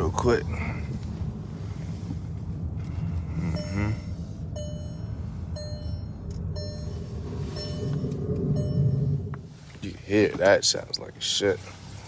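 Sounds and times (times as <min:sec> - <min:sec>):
car rumble: 0:00.0 - 0:12.0.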